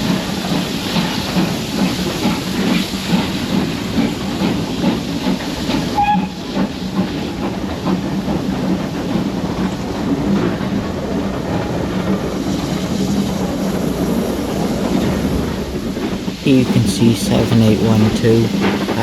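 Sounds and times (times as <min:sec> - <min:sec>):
steam locomotive running: 0:00.0 - 0:19.0.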